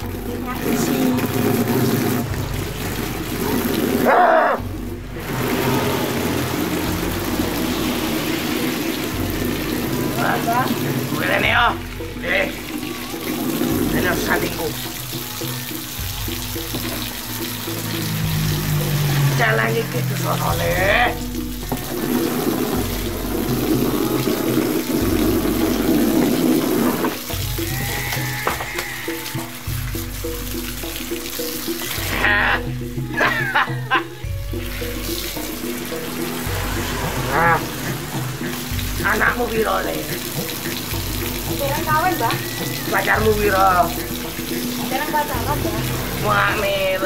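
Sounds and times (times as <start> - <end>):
rain falling: 0.0 - 47.0
water running from outdoor tap: 0.0 - 47.0
water splashing on wooden board: 0.0 - 47.0.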